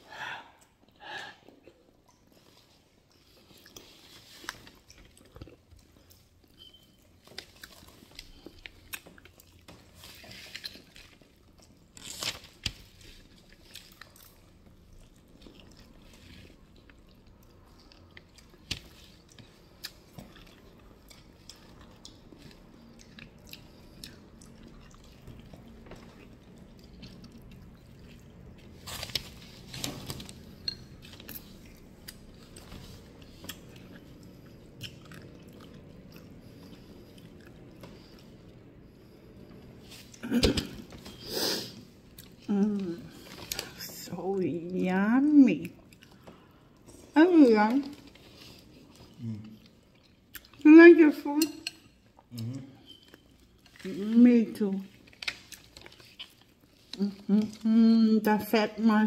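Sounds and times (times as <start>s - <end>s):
chewing and wet smacking: 0.6s - 41.2s, 41.8s - 50.7s, 51.4s - 57.7s.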